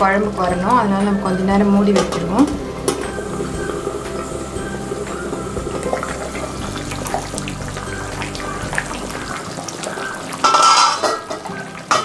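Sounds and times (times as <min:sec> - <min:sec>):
curry bubbling and popping: 0:01.6 - 0:12.0.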